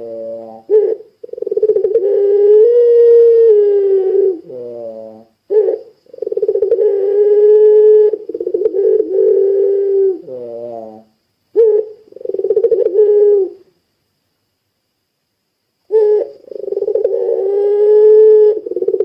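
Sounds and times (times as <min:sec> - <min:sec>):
dove cooing: 0:00.0 - 0:13.7, 0:15.9 - 0:19.0.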